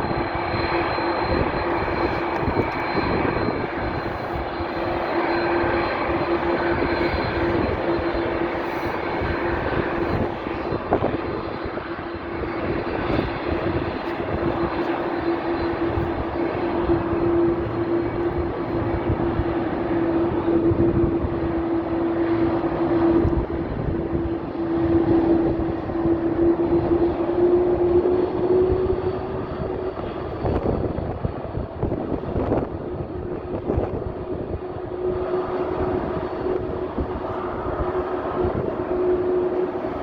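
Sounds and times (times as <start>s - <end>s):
jet engines droning: 0.0s - 40.0s.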